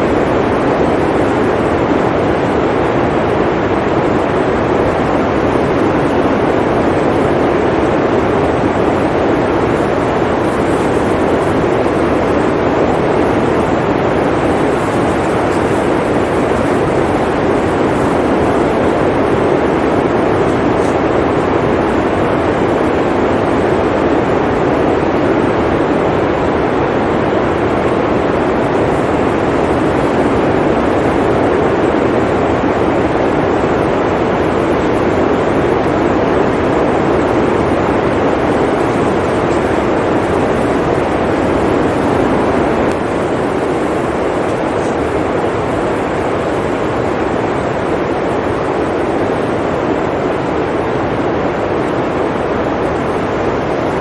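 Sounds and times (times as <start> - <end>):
blizzard wind blowing: 0.0 - 54.0.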